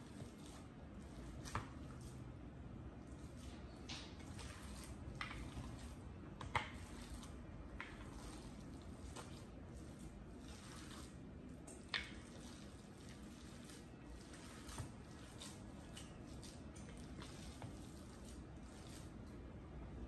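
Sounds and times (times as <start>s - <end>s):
wet squelches of kneading meat: 0.0s - 20.0s.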